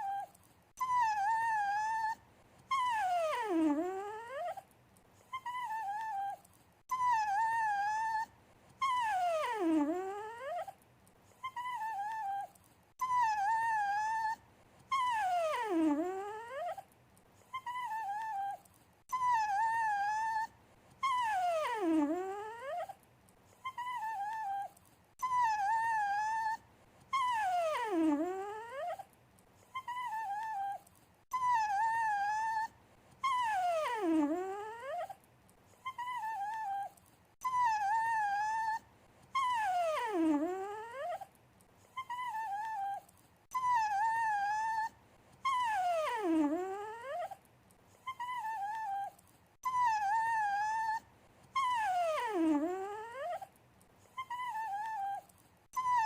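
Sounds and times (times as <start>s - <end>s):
dog whining: 0.0s - 10.8s, 11.4s - 56.0s.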